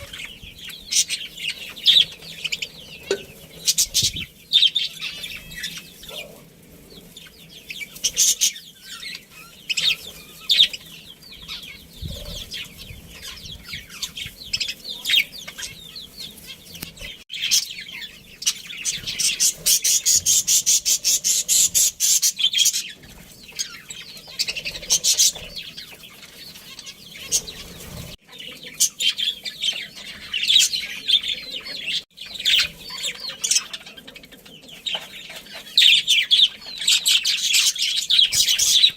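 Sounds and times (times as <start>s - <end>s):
budgerigars chirping: 0.0s - 38.9s
ticking bird chatter: 0.0s - 38.9s.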